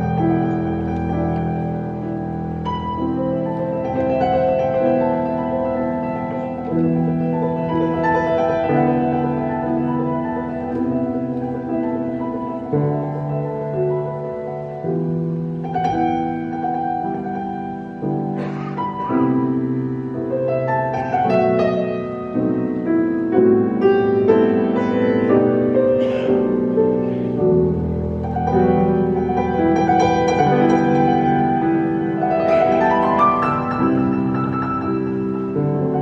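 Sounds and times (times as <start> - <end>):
solo piano improvisation: 0.0 - 36.0.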